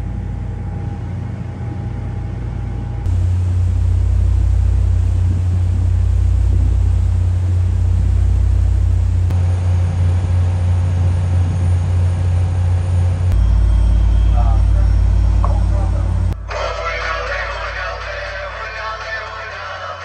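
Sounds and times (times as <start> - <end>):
ship engines rumbling: 2.2 - 19.5.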